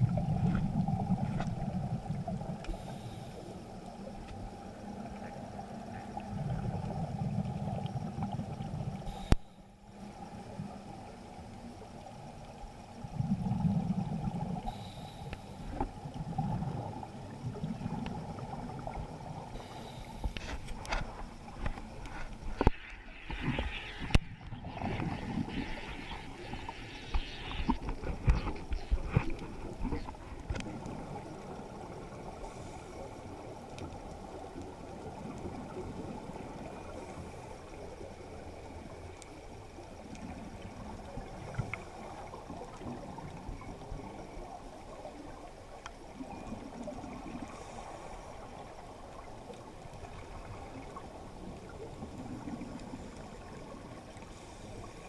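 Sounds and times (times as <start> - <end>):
water splashing and gurgling: 0.0 - 55.0.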